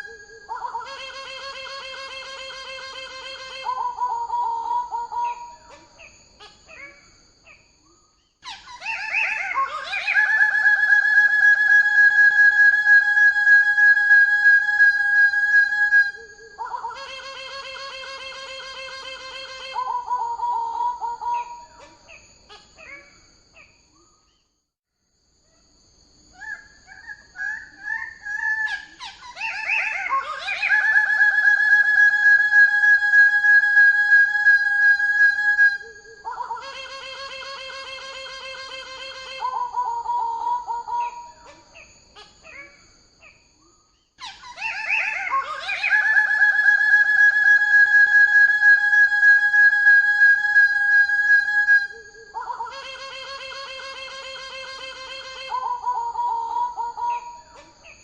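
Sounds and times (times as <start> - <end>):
faint bird chirps: 0.0 - 13.9, 14.5 - 24.7, 25.4 - 33.4, 34.4 - 49.2, 50.4 - 58.0.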